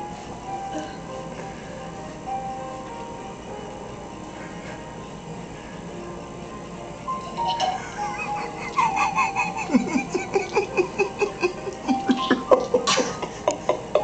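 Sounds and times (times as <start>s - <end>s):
background music with held notes: 0.0s - 14.0s.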